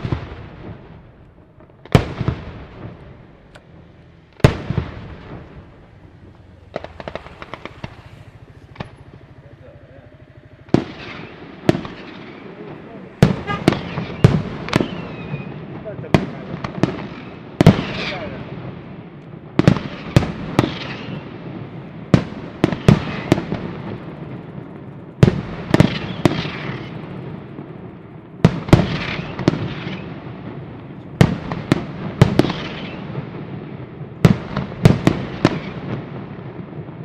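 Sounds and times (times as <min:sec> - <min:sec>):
fireworks bangs: 0:00.0 - 0:37.0
rumbling echo: 0:00.0 - 0:37.0.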